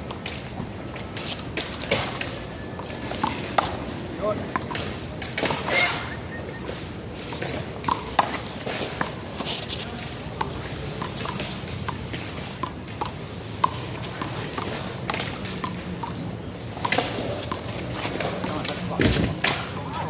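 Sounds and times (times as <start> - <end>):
handball smacking wall and pavement: 0.0 - 5.9, 7.3 - 19.8.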